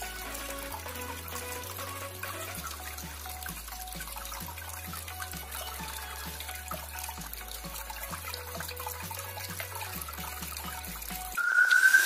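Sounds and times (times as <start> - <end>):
soft background music: 0.0 - 12.0
water trickling and splashing: 0.0 - 12.0.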